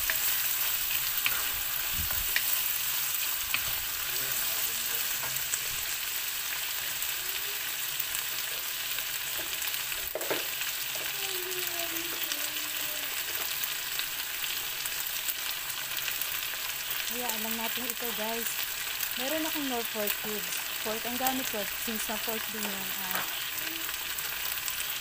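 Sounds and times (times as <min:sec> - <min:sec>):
food sizzling in a wok: 0:00.0 - 0:25.0.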